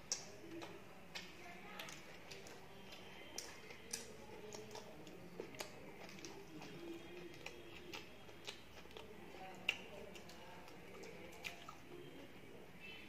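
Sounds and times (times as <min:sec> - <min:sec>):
people chewing with lip smacks: 0:00.0 - 0:13.0.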